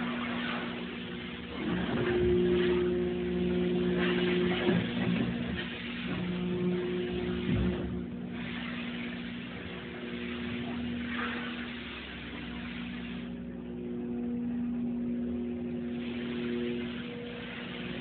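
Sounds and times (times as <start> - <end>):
hydraulic pump and motor humming: 0.0 - 18.0.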